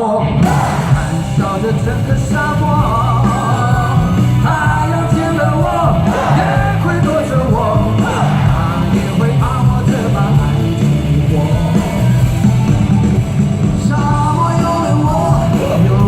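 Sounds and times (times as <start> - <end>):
man singing: 0.0 - 12.4, 13.6 - 16.0
live rock band: 0.0 - 16.0.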